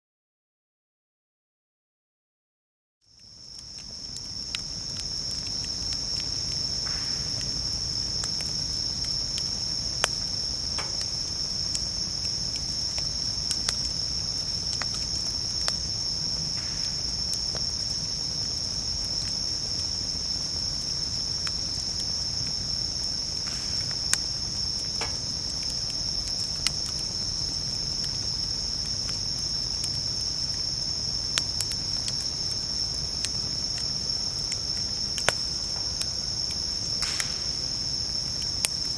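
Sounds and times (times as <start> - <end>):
campfire crackling and popping: 3.1 - 38.9
crickets singing: 3.1 - 38.9.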